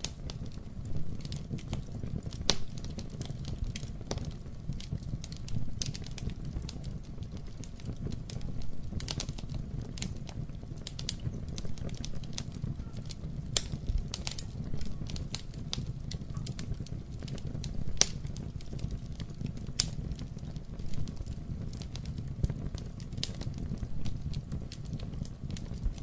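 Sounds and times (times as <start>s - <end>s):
campfire crackling and popping: 0.0s - 26.0s
low rumble of flames: 0.0s - 26.0s.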